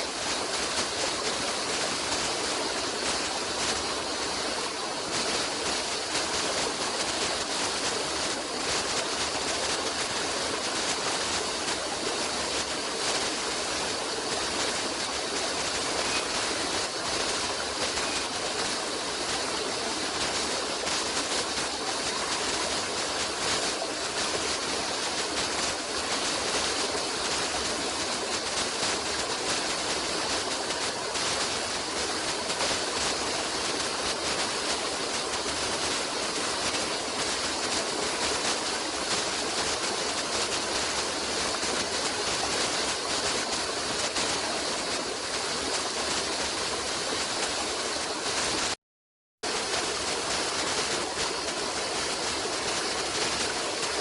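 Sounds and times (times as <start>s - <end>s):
stream water rushing: 0.0s - 48.8s, 49.5s - 54.0s.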